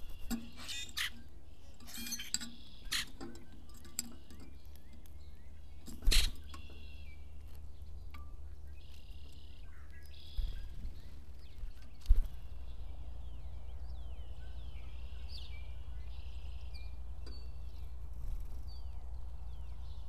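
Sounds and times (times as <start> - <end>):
harsh bird calls: 0.0 - 20.0
low background rumble: 0.0 - 20.0
small birds chirping: 0.0 - 20.0.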